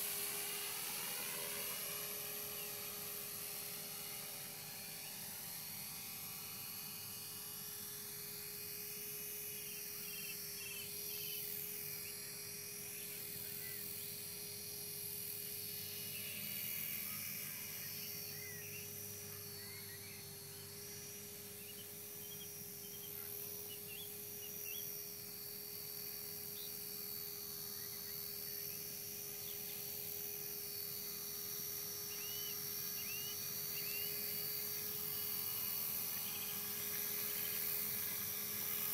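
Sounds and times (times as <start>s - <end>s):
model helicopter motor whine: 0.0s - 38.9s.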